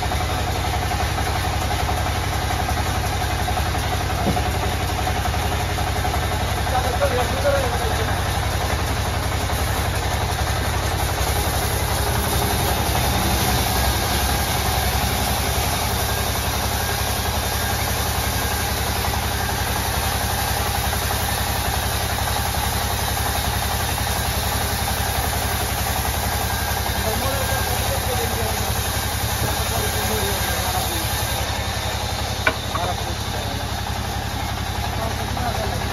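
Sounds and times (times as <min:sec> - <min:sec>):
band saw cutting timber: 0:00.0 - 0:35.9.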